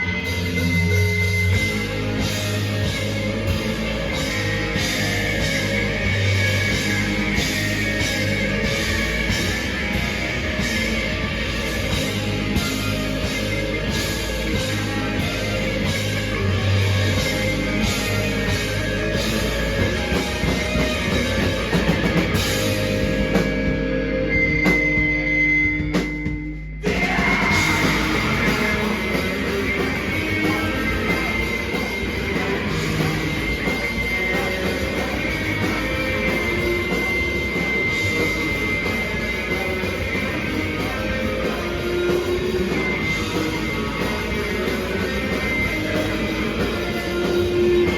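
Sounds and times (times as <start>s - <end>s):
rock band playing loud: 0.0s - 47.9s.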